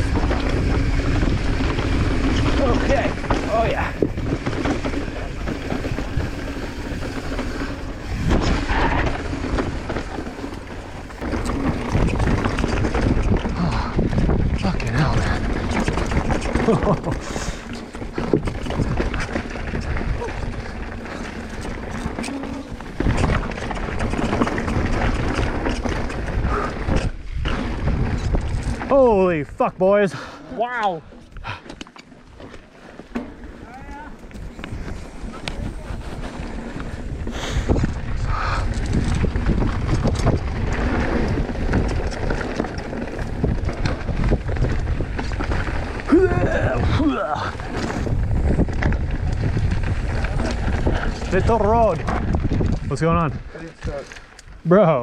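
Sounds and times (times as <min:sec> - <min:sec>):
bike clicks and knocks: 0:00.0 - 0:29.1, 0:31.2 - 0:46.1, 0:47.5 - 0:52.9
wind rumble on microphone: 0:00.0 - 0:29.8, 0:33.4 - 0:54.7
bike tyre noise: 0:00.0 - 0:55.0.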